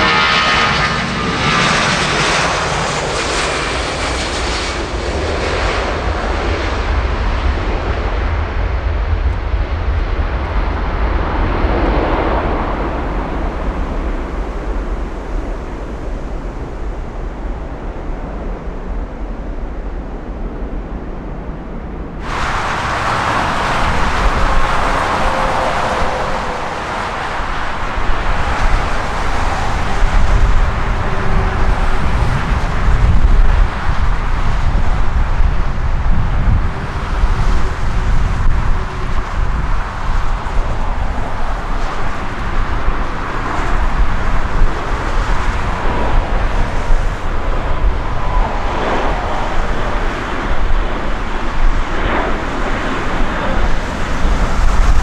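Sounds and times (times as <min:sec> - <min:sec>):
faint engine whine: 0:00.0 - 0:55.0
jet engines rumbling: 0:00.0 - 0:55.0
wind buffeting microphone: 0:00.0 - 0:55.0.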